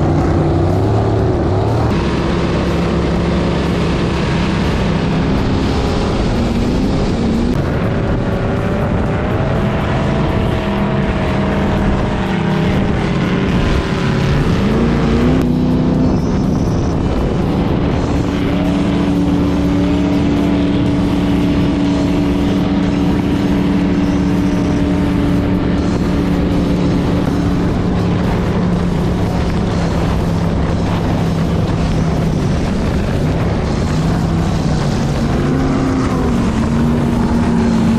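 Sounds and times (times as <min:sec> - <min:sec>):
boat engines running loud: 0:00.0 - 0:37.9.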